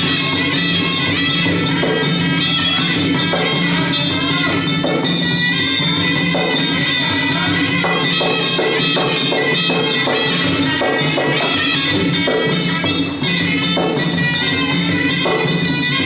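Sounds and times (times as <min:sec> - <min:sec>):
hand drum beats: 0:00.0 - 0:16.0
nasal reed oboe melody: 0:00.0 - 0:16.0
small cymbals clinking: 0:00.0 - 0:16.0.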